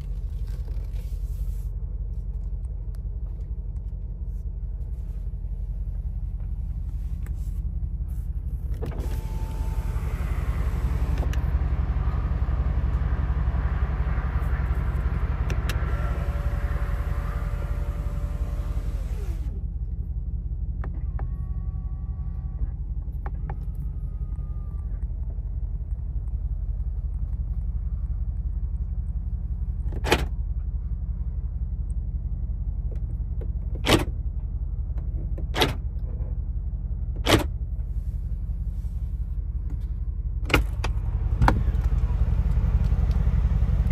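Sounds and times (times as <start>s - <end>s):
car rumble: 0.0s - 43.9s.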